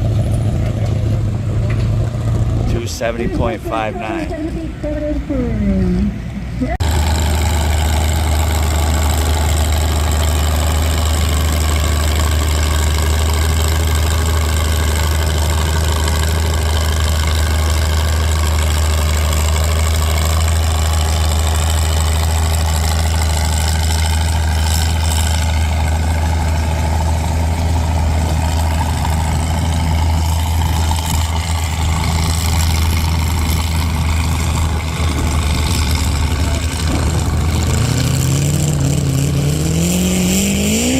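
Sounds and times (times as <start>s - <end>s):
tractor engine idling: 0.0s - 5.5s, 6.1s - 39.4s.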